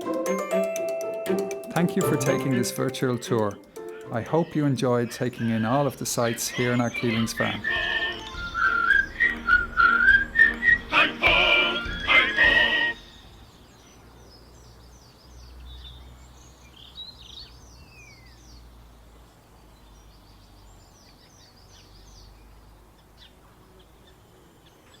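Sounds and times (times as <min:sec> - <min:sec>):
small birds chirping: 0:03.0 - 0:25.0.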